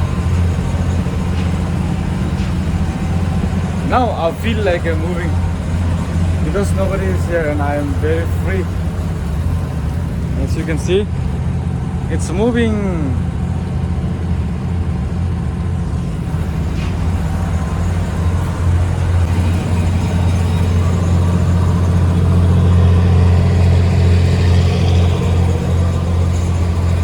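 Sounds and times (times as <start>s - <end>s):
boat engine low drone: 0.0s - 27.0s.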